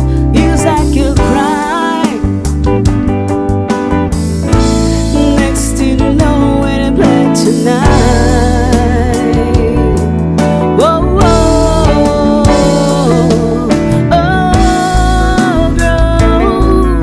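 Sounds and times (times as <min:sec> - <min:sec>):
gliding lead melody: 0:00.0 - 0:17.0
live band playing pop ballad: 0:00.0 - 0:17.0.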